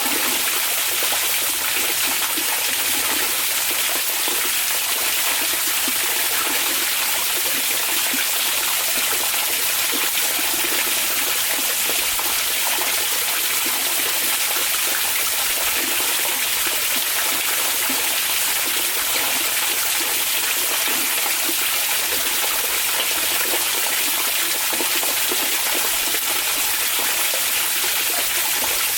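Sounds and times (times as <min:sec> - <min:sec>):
hot spring water flowing: 0:00.0 - 0:28.9.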